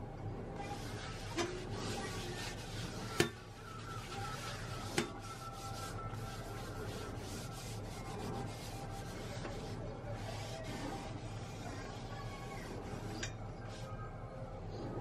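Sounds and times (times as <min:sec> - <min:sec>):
paper towel rubbing cast iron pot: 0:00.6 - 0:13.9.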